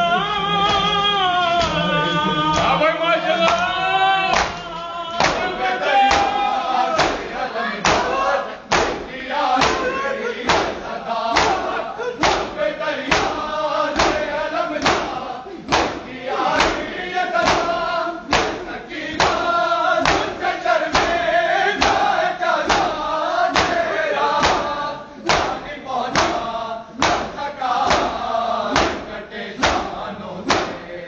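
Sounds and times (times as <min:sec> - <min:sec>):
men singing together: 0:00.0 - 0:31.0
hands slapping chests: 0:04.3 - 0:13.4, 0:14.0 - 0:30.9.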